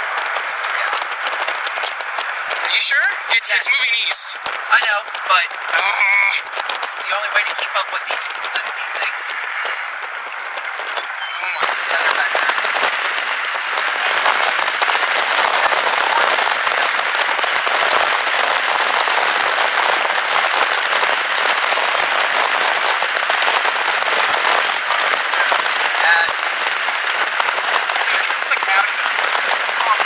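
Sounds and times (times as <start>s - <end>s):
wind-driven storm rain hissing: 0.0s - 30.0s.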